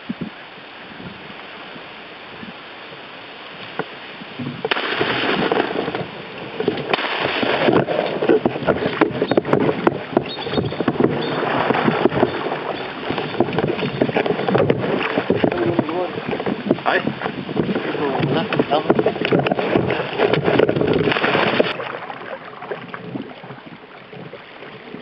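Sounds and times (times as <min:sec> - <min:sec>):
water rushing against canoe: 0:00.0 - 0:25.0.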